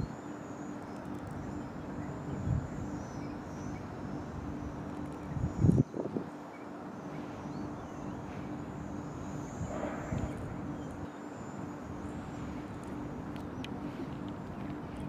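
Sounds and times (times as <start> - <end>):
outdoor background hum: 0.0 - 15.0.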